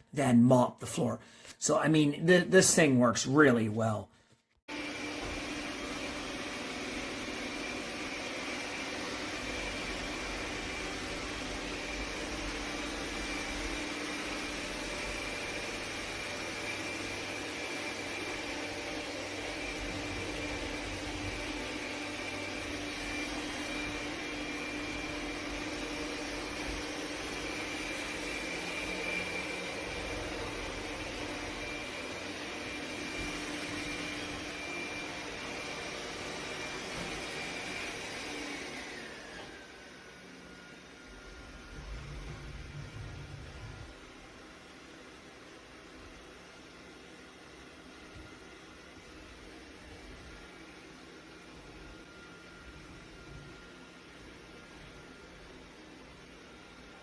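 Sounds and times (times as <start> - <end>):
robot vacuum running: 4.7 - 57.0.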